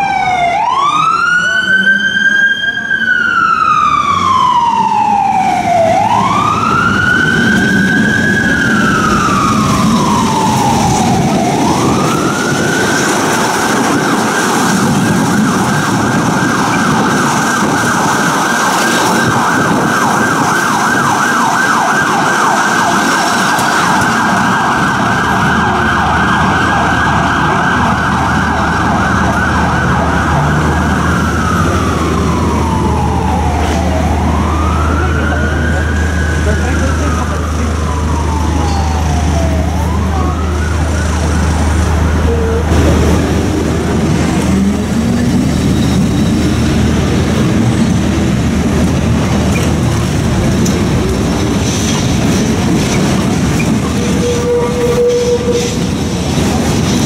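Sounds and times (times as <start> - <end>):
emergency vehicle siren wailing: 0.0 - 57.0.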